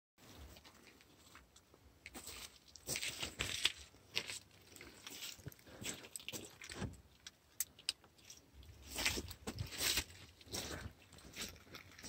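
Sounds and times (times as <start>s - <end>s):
rustling and crunching on dry grass: 0.2s - 7.0s, 8.2s - 12.0s.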